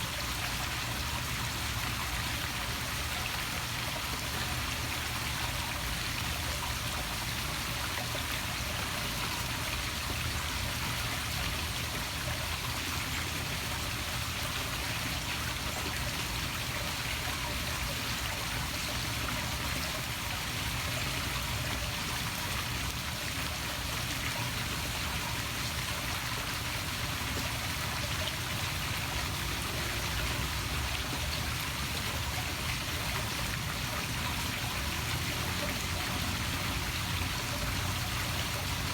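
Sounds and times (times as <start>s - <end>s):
waterfall splashing into pool: 0.0s - 38.9s.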